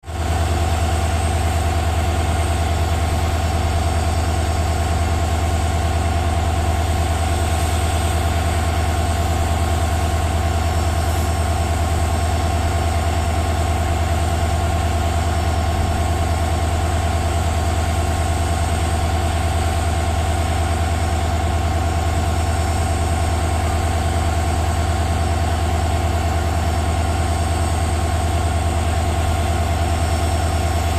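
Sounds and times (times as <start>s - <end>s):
locomotive engine idling: 0.1s - 30.9s.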